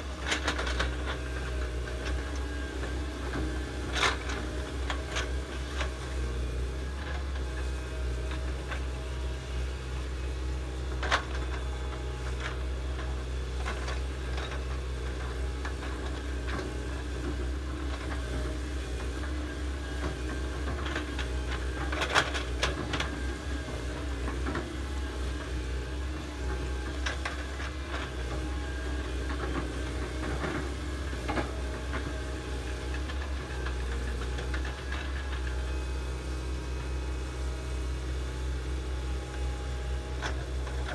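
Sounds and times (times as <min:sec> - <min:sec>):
excavators digging: 0:00.0 - 0:40.9.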